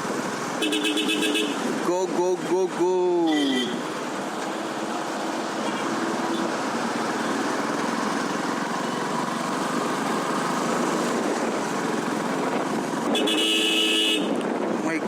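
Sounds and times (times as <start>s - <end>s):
motorcycle engine and road noise: 0.0s - 15.0s.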